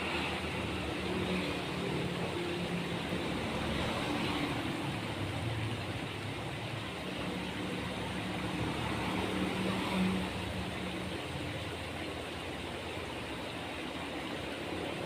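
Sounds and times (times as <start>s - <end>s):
traffic engines humming: 0.0s - 15.0s.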